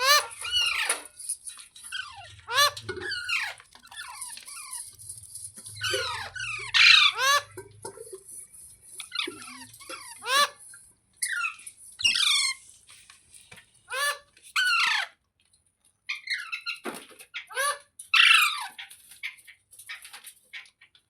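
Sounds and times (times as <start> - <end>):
parrot squawking: 0.0 - 12.7, 13.9 - 15.2, 16.1 - 19.4.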